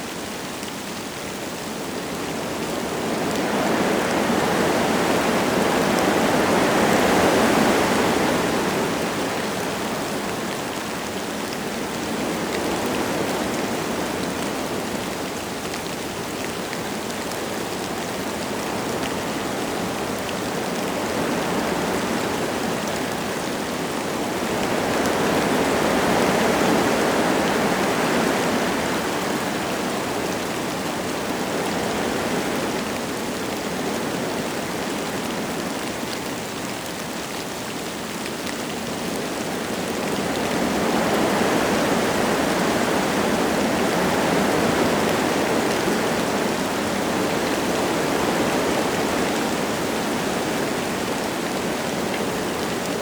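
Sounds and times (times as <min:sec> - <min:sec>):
light rain falling: 0:00.0 - 0:53.0
wind gusting through trees: 0:00.0 - 0:53.0.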